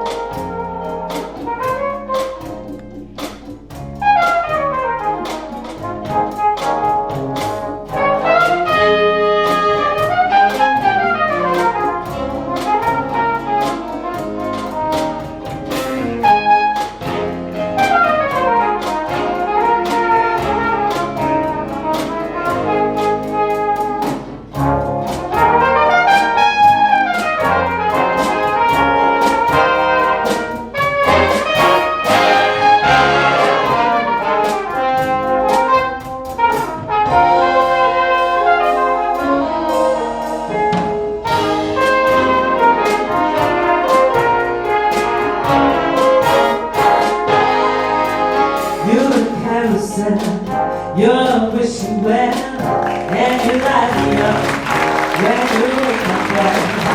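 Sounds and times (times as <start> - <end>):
big band brass: 0.0 - 56.9
drums and rhythm section: 0.0 - 56.9.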